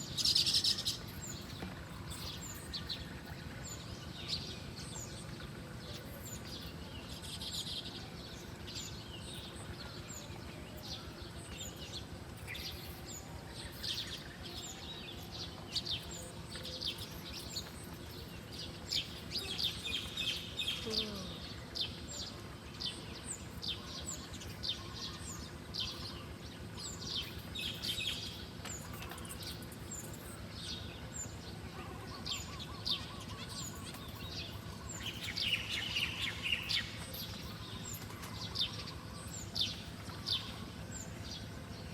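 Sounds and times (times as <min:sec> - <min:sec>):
low background noise: 0:00.0 - 0:41.9
small birds chirping: 0:00.0 - 0:41.9.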